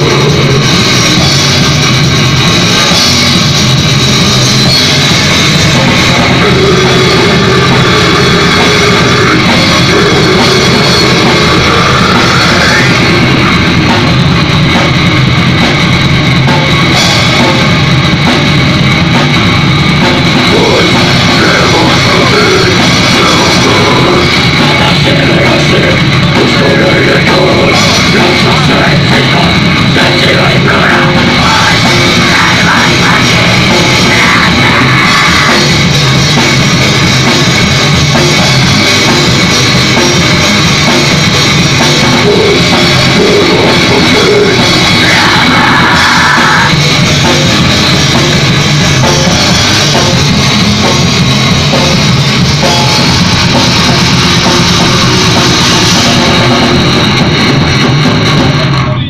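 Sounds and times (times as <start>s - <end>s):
bass guitar: 0.0s - 59.0s
drum kit with cymbals: 0.0s - 59.0s
heavy rock band playing: 0.0s - 59.0s.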